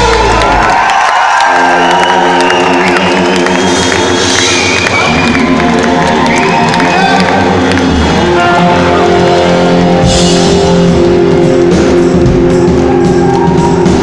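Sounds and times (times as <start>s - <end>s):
drum kit: 0.0s - 14.0s
electric bass: 0.0s - 14.0s
electric guitar: 0.0s - 14.0s.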